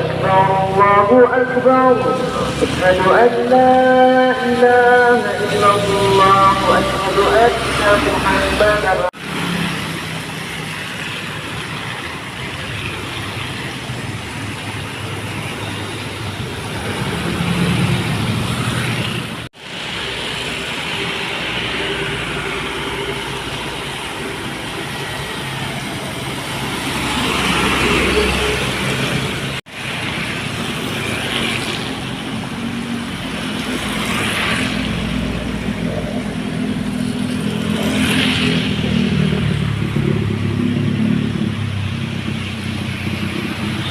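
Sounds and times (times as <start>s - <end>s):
diesel engine drone: 0.0s - 43.9s
tyre noise on wet road: 0.0s - 43.9s.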